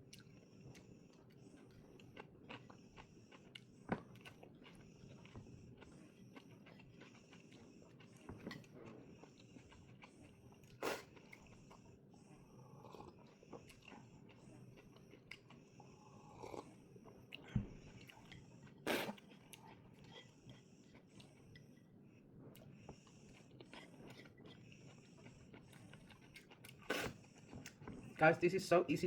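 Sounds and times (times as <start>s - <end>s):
person chewing food: 0.0s - 28.2s.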